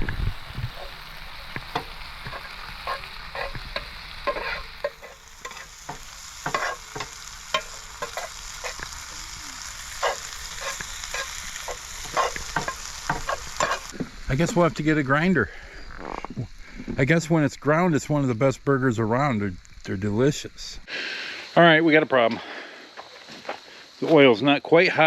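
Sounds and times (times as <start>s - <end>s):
meat sizzling on a griddle: 0.0s - 25.0s.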